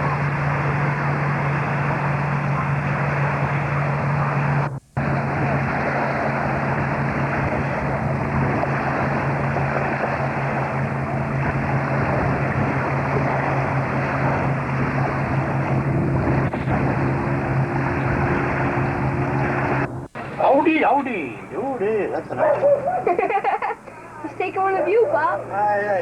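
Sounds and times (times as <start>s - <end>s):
higher steady tone: 0.0s - 23.2s, 23.8s - 26.0s
boat engine humming: 0.0s - 26.0s
wind and water rushing: 0.0s - 26.0s.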